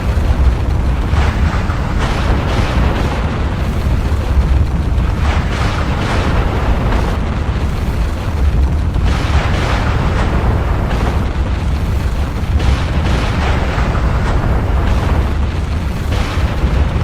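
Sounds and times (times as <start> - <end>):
deep volcanic rumble: 0.0 - 17.0
rushing surges: 0.0 - 17.0.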